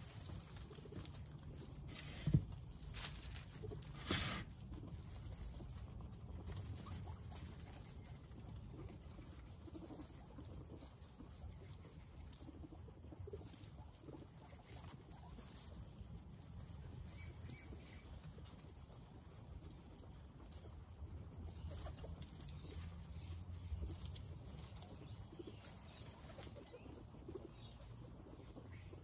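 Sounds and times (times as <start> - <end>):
guinea pigs chewing: 0.0 - 29.0.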